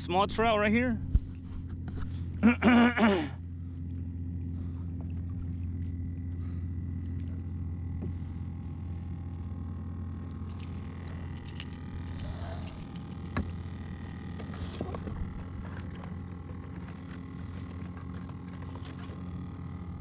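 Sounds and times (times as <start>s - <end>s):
boat motor droning: 0.0s - 20.0s.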